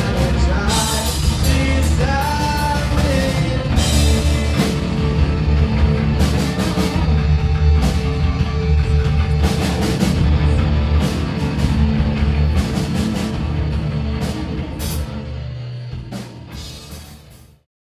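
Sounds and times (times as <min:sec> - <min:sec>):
rock band playing: 0:00.0 - 0:17.7.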